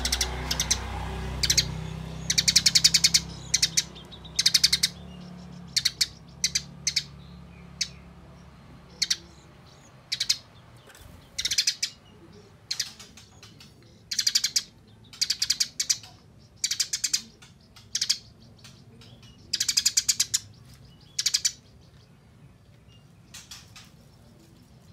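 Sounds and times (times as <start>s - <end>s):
sparrow harsh chattering: 0.0s - 22.1s, 23.2s - 24.9s.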